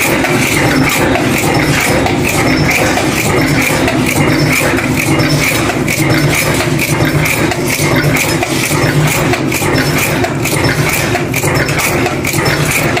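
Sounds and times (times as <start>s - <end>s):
rhythmic metal forging strokes: 0.0s - 13.0s
steady machine hum: 0.0s - 13.0s.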